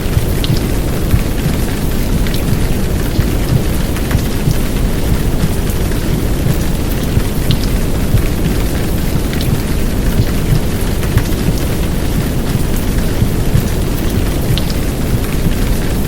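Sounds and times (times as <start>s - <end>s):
deep muffled womb rumble: 0.0s - 15.8s
heavy rain hissing: 0.0s - 16.0s
low heartbeat thuds: 0.0s - 16.0s.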